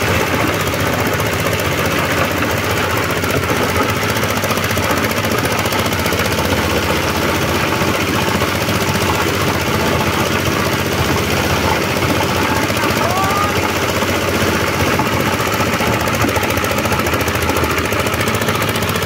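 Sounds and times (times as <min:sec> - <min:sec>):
small engine running a chopper: 0:00.0 - 0:19.0.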